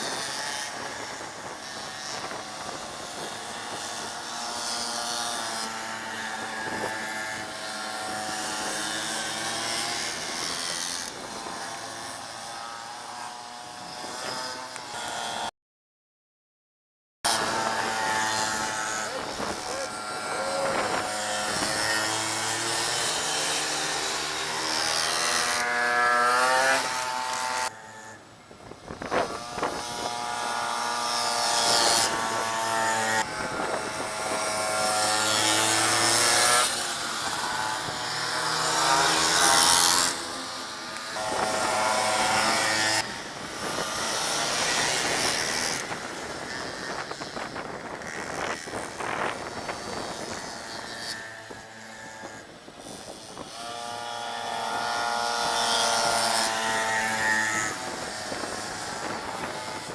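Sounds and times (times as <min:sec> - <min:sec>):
minibike engines revving past: 0:00.0 - 0:15.5, 0:17.3 - 0:59.9.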